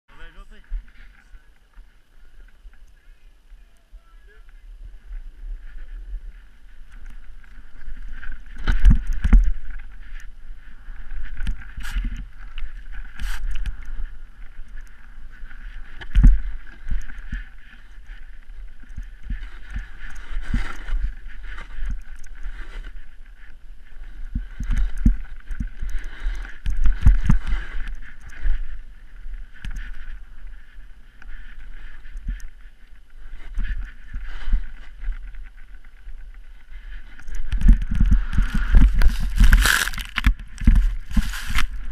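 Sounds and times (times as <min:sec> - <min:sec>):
rush of wind and snow: 0:00.1 - 0:41.9.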